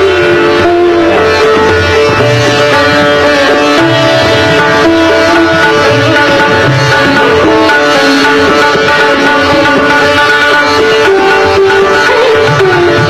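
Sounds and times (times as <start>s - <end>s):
sitar melody: 0.0s - 13.0s
tabla drumming: 0.0s - 13.0s.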